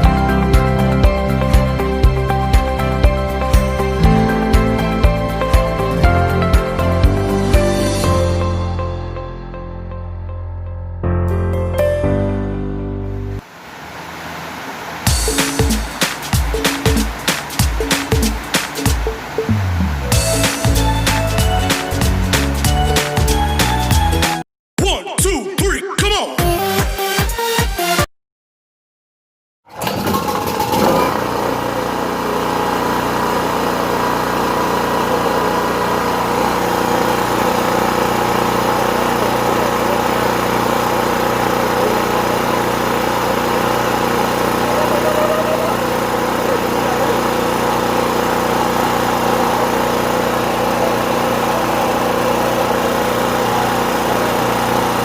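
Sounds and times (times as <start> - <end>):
generator engine running: 0.0 - 8.2, 13.2 - 24.4, 29.7 - 55.0.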